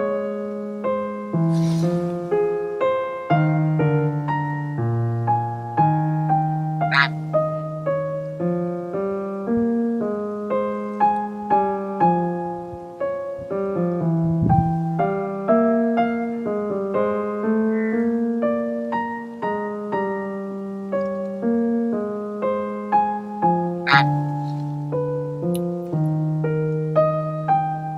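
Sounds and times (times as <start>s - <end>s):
soft piano music: 0.0s - 27.9s.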